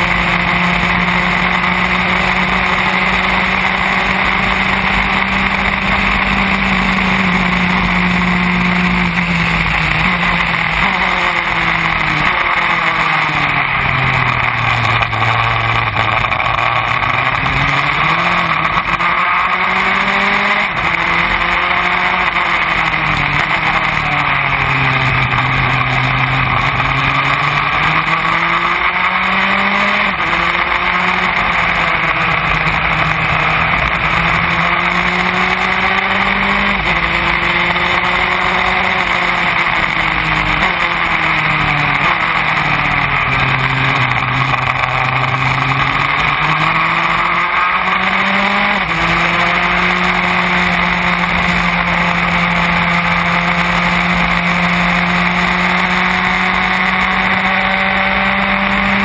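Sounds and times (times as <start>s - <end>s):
race car engine accelerating: 0.0s - 59.0s
steady rushing noise: 0.0s - 59.0s.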